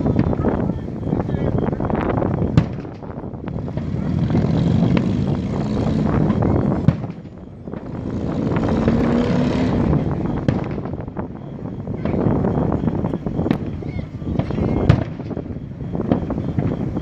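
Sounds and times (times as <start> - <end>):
firework bangs: 0.0 - 17.0
rushing background noise: 0.0 - 17.0.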